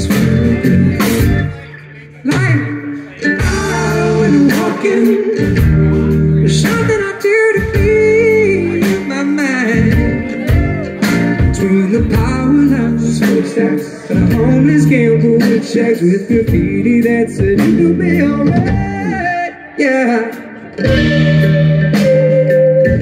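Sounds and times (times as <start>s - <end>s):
drum kit: 0.0s - 1.7s, 2.3s - 23.0s
bass guitar: 0.0s - 23.0s
electric guitar: 0.0s - 23.0s
person singing: 0.0s - 23.0s.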